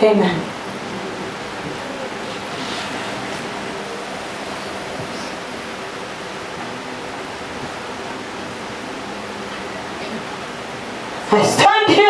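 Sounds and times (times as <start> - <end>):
faint low hum: 0.0 - 11.7
steady background hiss: 0.0 - 12.0.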